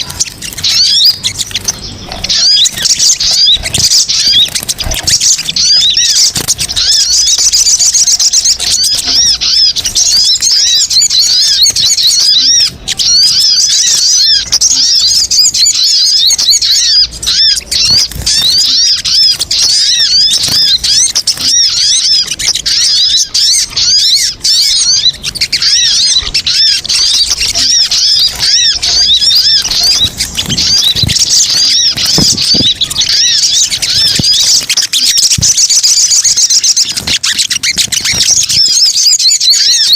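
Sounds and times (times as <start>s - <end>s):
bird chattering high thin chirps: 0.0s - 39.9s.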